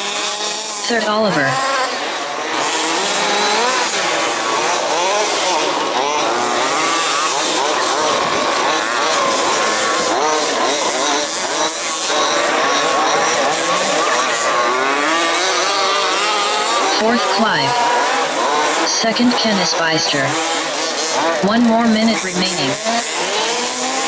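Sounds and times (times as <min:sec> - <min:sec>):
small two-stroke engines revving: 0:00.0 - 0:24.0.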